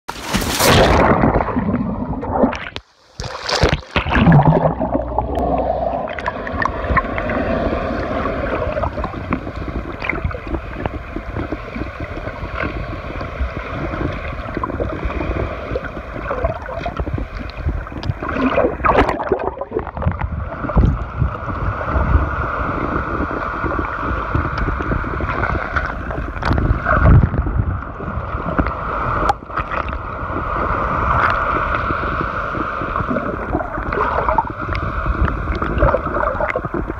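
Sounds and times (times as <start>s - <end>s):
muffled underwater sloshing and gurgling: 0.4s - 36.9s.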